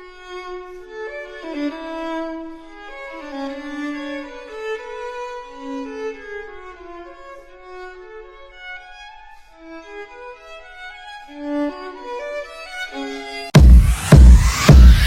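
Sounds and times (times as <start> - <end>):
violin melody with gliding notes: 0.0 - 13.6.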